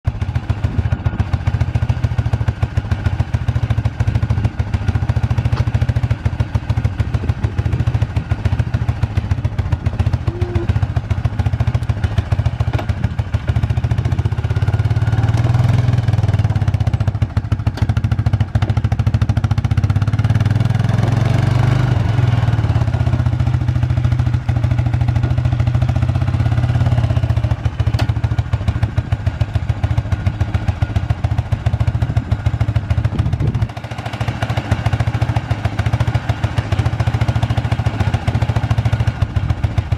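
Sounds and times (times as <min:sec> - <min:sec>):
atv engine puttering: 0:00.1 - 0:39.9.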